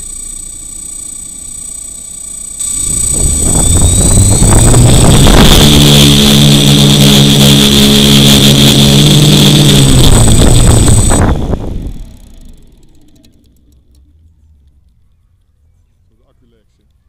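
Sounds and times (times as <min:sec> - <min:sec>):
drone motors buzzing: 0:00.0 - 0:15.0.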